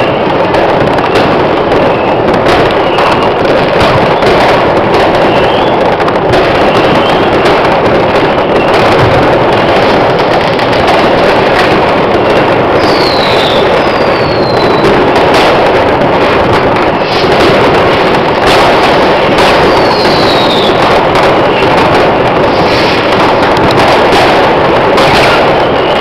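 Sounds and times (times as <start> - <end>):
fireworks bangs and firecrackers: 0.0 - 26.0
whistling rockets: 0.0 - 26.0.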